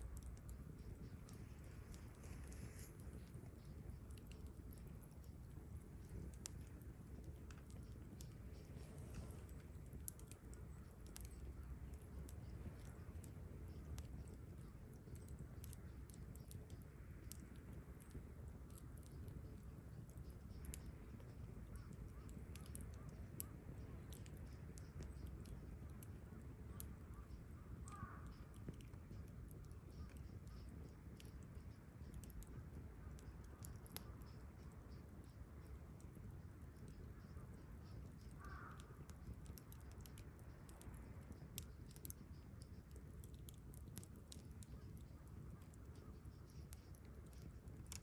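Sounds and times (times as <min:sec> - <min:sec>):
campfire crackling and popping: 0:00.0 - 0:48.0
faint bird calls: 0:00.1 - 0:48.0.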